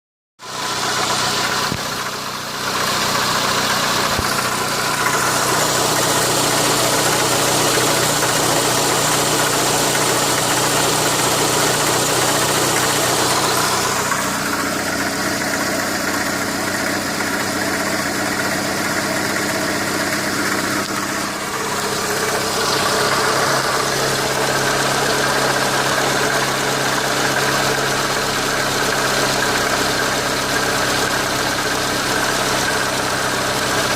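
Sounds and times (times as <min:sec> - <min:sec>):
car engine idling: 0:00.4 - 0:33.9
engine knocking: 0:00.4 - 0:33.9.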